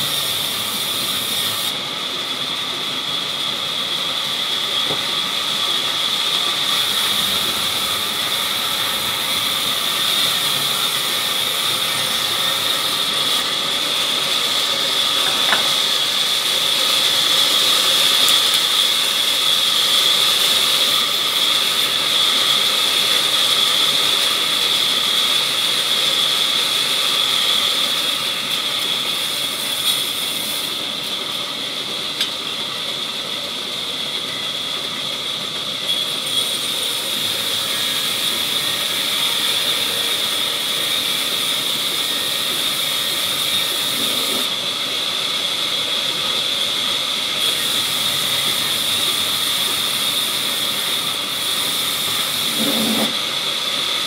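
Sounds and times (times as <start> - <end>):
band saw cutting log: 0.0 - 32.7, 35.7 - 54.0.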